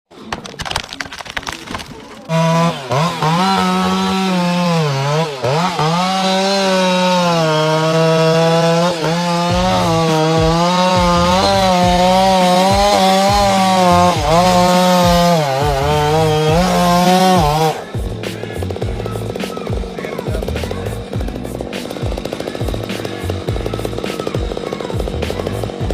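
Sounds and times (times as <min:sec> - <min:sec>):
chainsaw cutting wood: 0:00.2 - 0:25.9.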